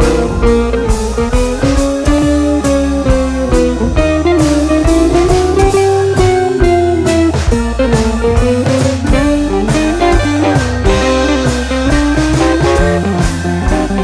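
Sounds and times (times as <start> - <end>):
bluesy guitar music: 0.0 - 14.0
steady drum beat: 0.0 - 14.0.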